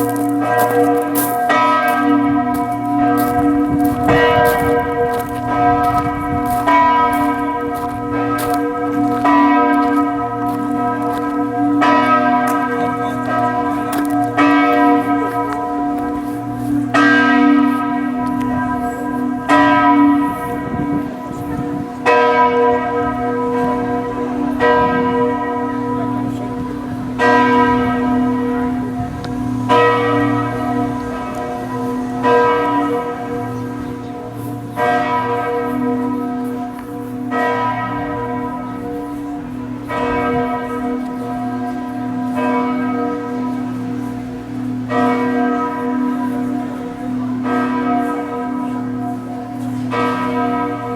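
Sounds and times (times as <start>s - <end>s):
church bells tolling: 0.0s - 50.9s.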